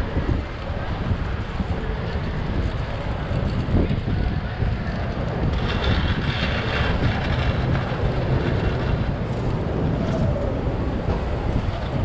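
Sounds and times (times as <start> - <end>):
skate wheels rolling on asphalt: 0.0 - 12.0
wind rumble on microphone: 0.0 - 12.0.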